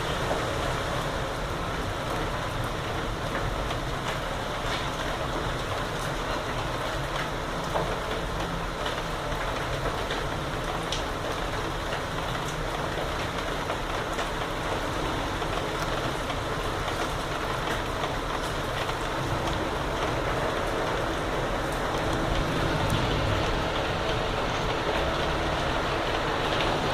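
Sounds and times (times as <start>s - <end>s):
heavy rain hiss: 0.0s - 26.9s.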